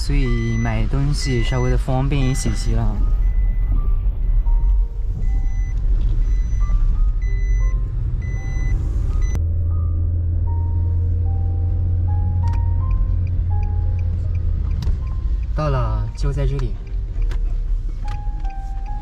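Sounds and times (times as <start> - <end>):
simple melody background music: 0.0 - 19.0
vehicle rumble: 0.0 - 19.0.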